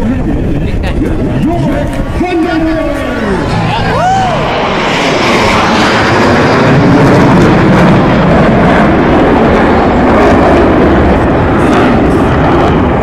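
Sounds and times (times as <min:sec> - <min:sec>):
fighter jets passing over: 0:00.0 - 0:13.0.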